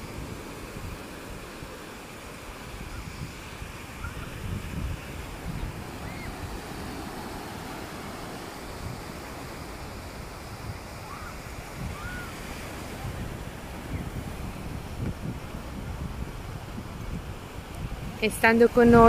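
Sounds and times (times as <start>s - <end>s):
surf breaking on a beach: 0.0s - 19.0s
wind buffeting microphone: 0.0s - 19.0s.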